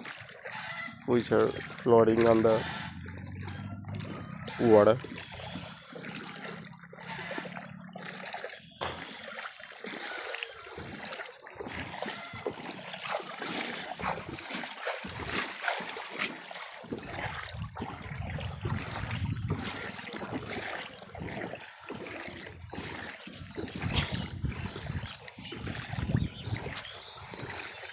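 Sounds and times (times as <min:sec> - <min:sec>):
water splashing and sloshing: 0:00.0 - 0:27.9.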